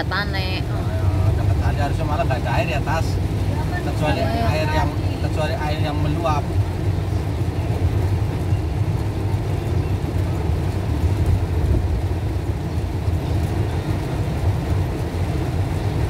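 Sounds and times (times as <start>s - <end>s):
car engine and tyres on wet road: 0.0s - 16.0s
rain on car: 0.0s - 16.0s.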